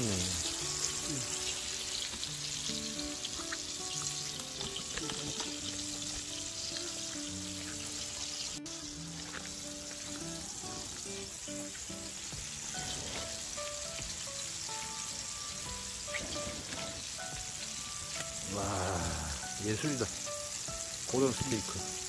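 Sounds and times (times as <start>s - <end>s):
fish frying in hot oil: 0.0s - 22.0s.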